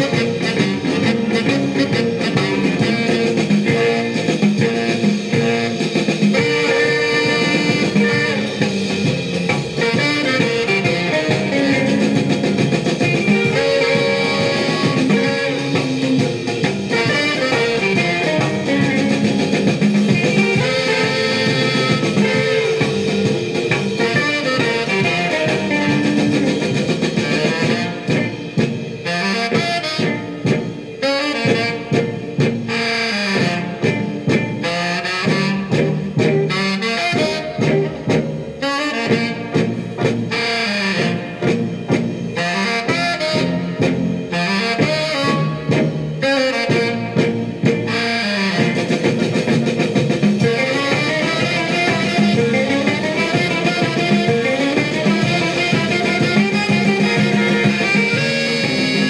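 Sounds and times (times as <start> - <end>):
saxophone and brass music record: 0.0 - 59.0.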